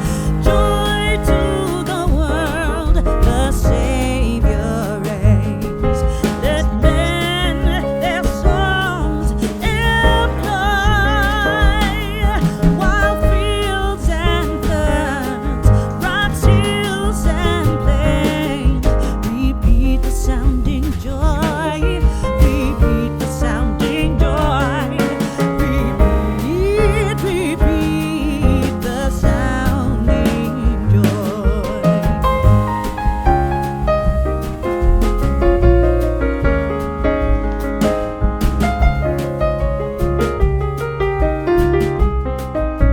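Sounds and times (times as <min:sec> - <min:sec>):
song with singer and bass: 0:00.0 - 0:42.9.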